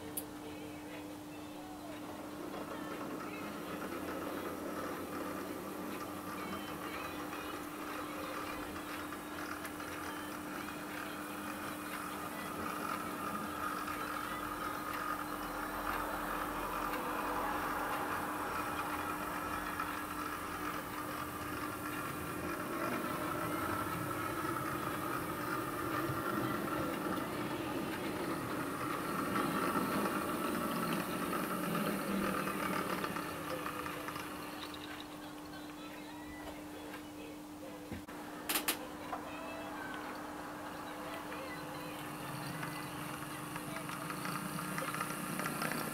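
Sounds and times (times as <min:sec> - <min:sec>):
model train mechanical hum: 0:00.0 - 0:37.0, 0:38.0 - 0:45.9
model train wheel rumble: 0:02.4 - 0:35.4, 0:40.2 - 0:45.9.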